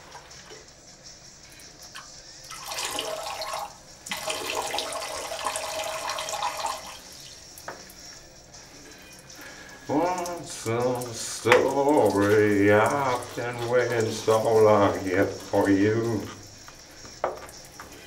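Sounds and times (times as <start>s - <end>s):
man urinating into toilet: 1.7s - 18.0s.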